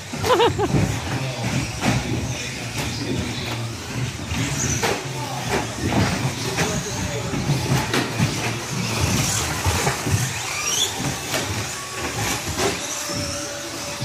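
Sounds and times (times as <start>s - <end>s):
electric motors whining: 0.0s - 14.0s
toy trucks knocking and clattering: 0.0s - 14.0s.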